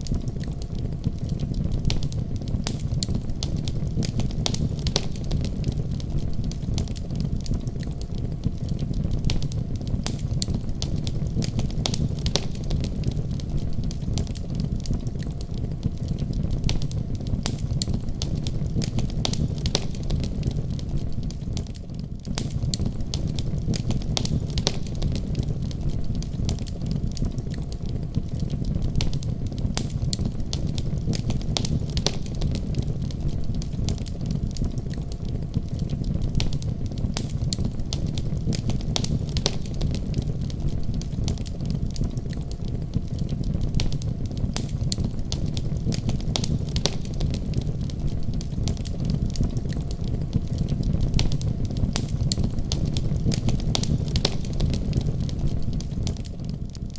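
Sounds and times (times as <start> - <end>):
firewood crackling and popping: 0.0 - 56.9
low fire rumble: 0.0 - 56.9.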